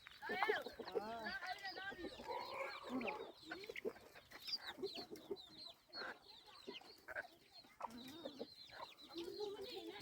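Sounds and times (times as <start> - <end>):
chickens clucking: 0.0 - 10.0
high chick peeps: 0.0 - 10.0.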